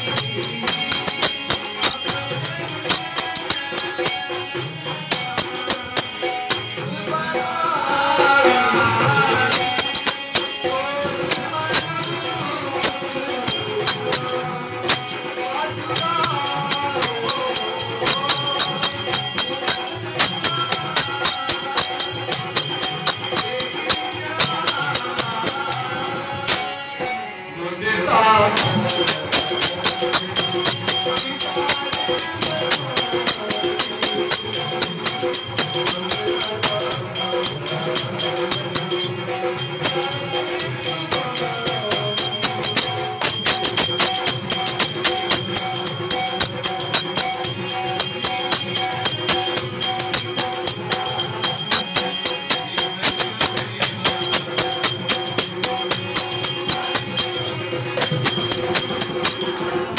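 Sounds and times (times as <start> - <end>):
hand cymbals: 0.0 - 27.3, 28.2 - 59.9
dholak drum beat: 0.0 - 59.9.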